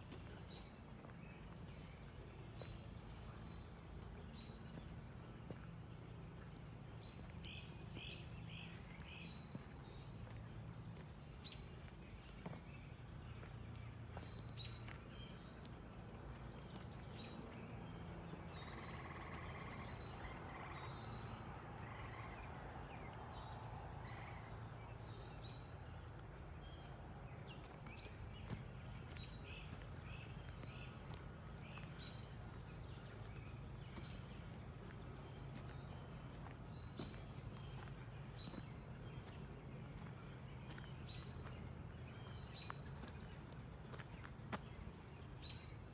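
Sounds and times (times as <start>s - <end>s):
birds chirping: 0.1s - 45.9s.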